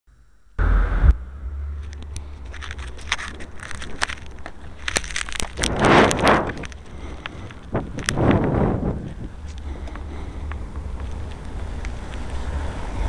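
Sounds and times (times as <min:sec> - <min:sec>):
low steady rumble: 0:00.1 - 0:13.0
handling clicks and rustling: 0:01.8 - 0:12.5.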